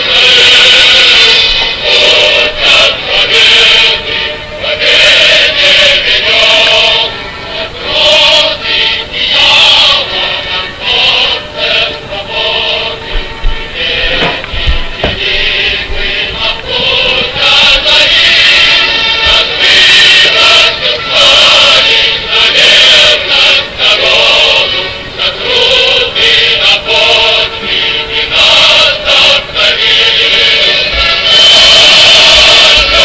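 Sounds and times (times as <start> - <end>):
music with voices singing together: 0.0 - 33.0.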